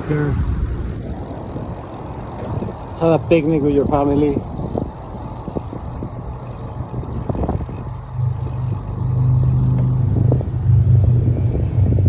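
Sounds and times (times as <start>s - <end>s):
steady low hum: 0.0s - 12.0s
vehicle running noise: 0.0s - 12.0s
wind rumble on microphone: 0.0s - 12.0s.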